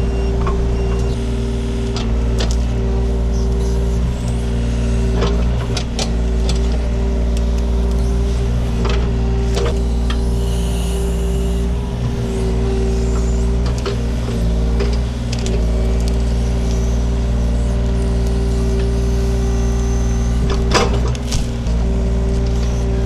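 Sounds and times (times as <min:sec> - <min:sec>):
excavator diesel engine: 0:00.0 - 0:23.0.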